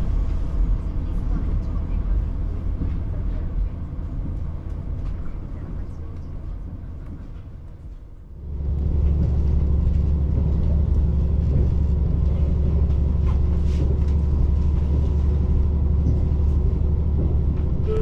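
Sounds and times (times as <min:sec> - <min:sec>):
diesel train engine rumbling: 0:00.0 - 0:18.0.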